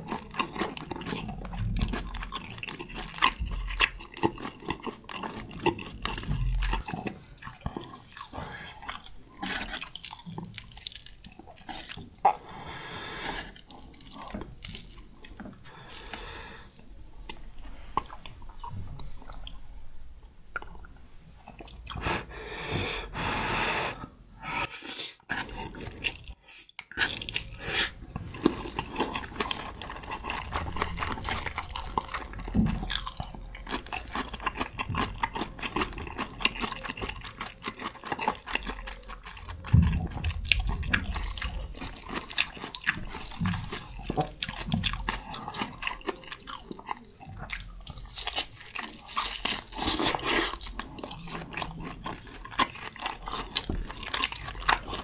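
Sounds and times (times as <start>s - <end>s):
wet chewing: 0.0s - 19.9s, 25.3s - 55.0s.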